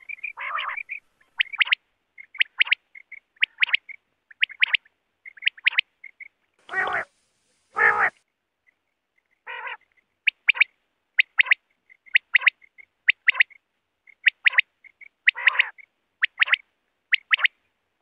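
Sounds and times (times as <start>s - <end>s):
quail calling: 0.0s - 7.1s, 7.7s - 8.2s, 9.4s - 17.6s.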